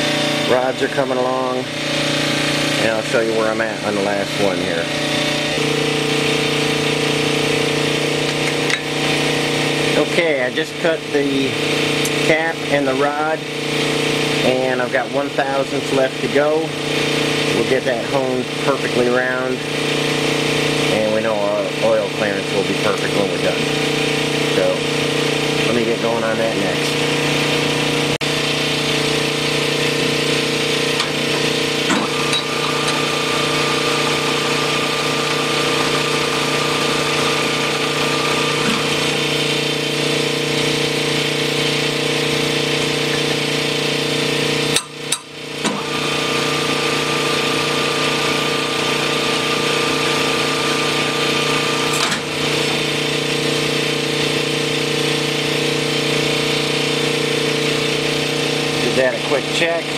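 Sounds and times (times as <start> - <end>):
honing machine humming: 0.0 - 15.6, 19.1 - 59.9.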